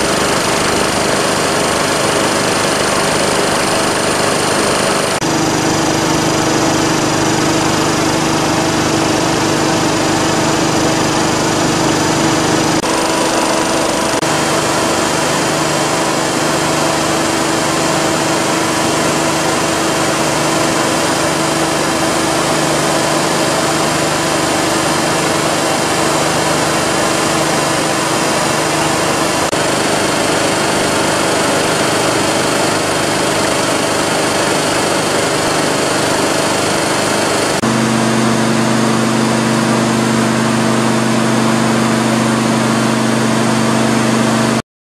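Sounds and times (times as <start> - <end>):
air compressor running: 0.0 - 44.6.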